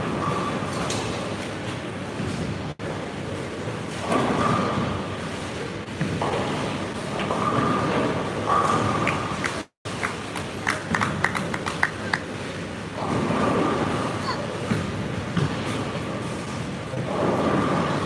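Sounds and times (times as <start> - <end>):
bowling balls rolling: 2.0 - 18.0.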